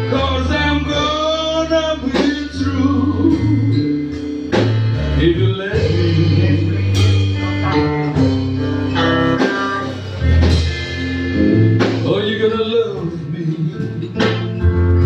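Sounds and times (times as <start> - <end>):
bass line: 0.0 - 15.0
drums: 0.0 - 15.0
plucked guitar notes: 0.0 - 15.0.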